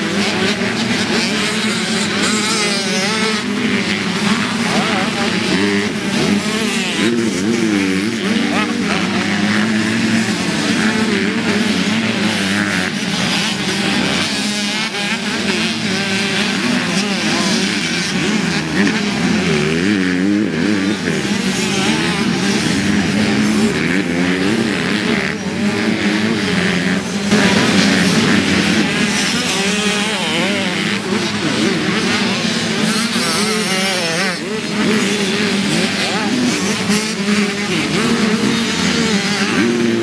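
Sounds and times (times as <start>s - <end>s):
dirt bike engines revving: 0.0s - 40.0s.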